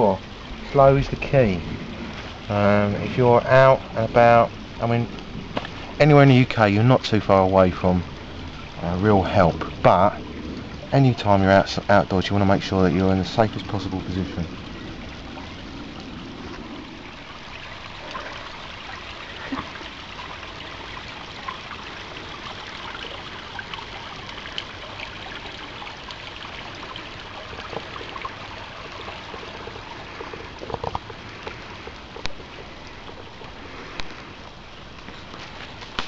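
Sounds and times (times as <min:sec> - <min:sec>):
stream trickling and babbling: 0:00.0 - 0:36.0.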